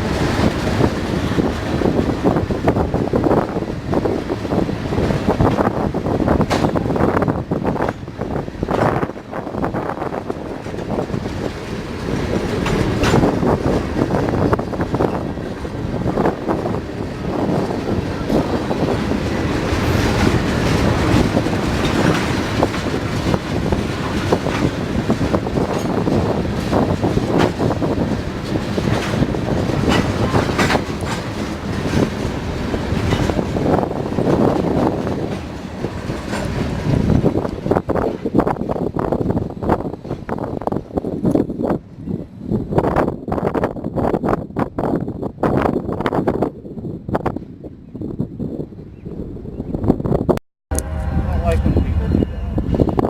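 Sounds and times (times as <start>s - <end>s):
railroad car wheels clattering: 0.0s - 47.8s.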